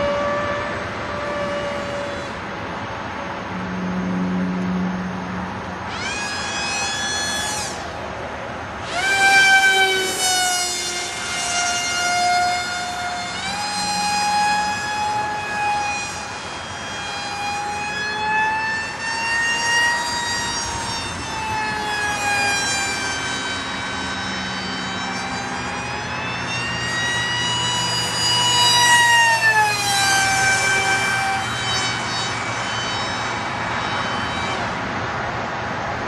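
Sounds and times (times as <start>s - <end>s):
model aircraft motor whining: 0.0s - 35.0s.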